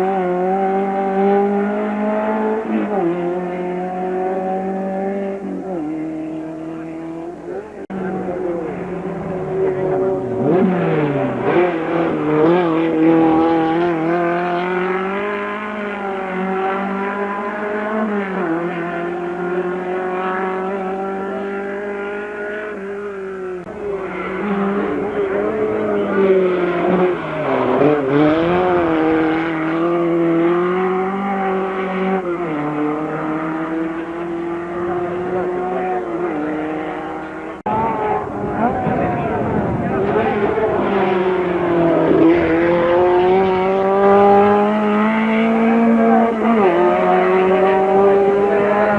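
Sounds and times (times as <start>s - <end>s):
car engine revving at full throttle: 0.0s - 48.9s.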